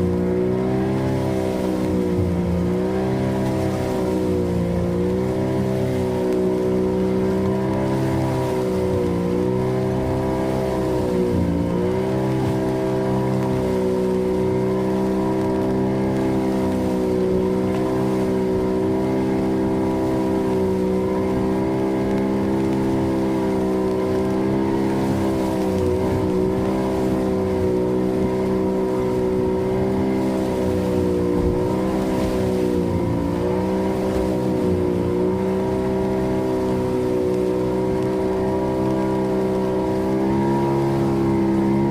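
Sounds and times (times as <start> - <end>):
boat engine running steadily: 0.0 - 41.9.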